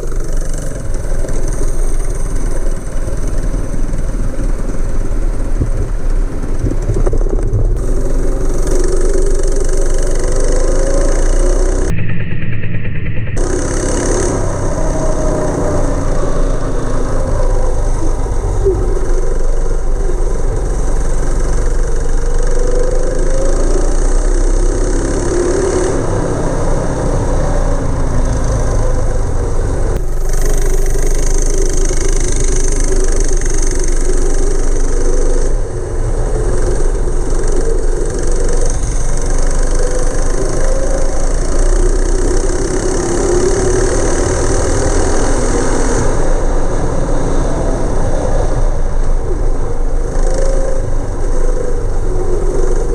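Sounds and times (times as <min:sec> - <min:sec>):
go-kart engine revving: 0:00.0 - 0:11.9, 0:13.4 - 0:52.9.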